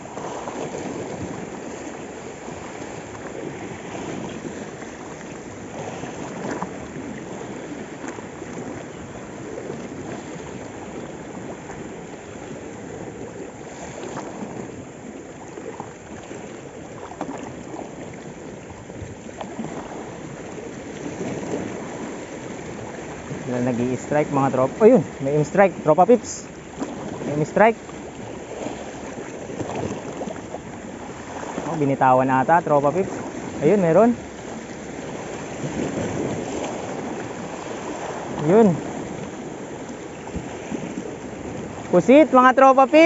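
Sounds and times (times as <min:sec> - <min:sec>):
sea waves lapping on rocks: 0:00.0 - 0:43.0.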